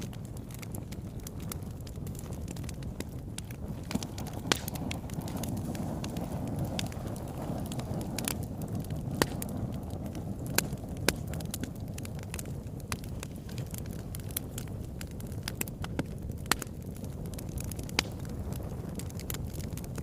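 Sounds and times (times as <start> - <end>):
fireplace fire crackling: 0.0 - 20.0
sharp pops from fire: 0.0 - 20.0.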